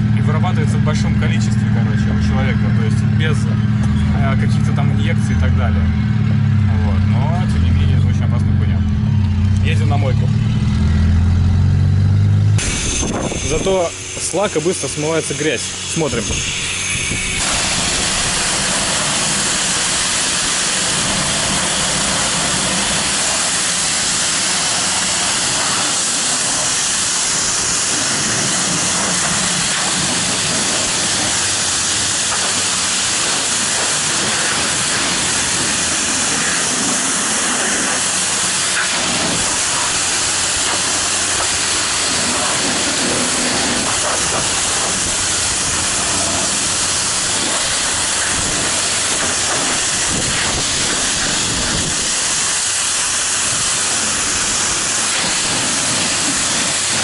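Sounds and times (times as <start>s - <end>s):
high-pressure water jet hissing: 0.0s - 5.6s, 12.6s - 57.0s.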